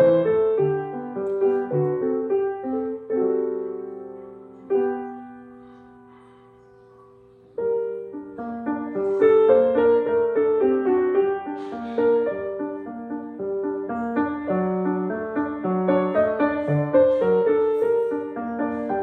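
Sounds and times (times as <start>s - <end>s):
grand piano playing: 0.0s - 19.0s.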